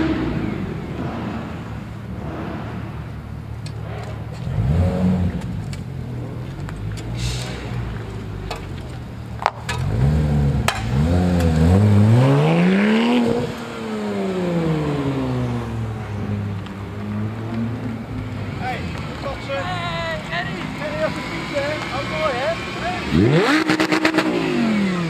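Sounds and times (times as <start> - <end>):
car engine idling and revving: 0.0 - 25.0
exhaust cracks: 0.0 - 25.0.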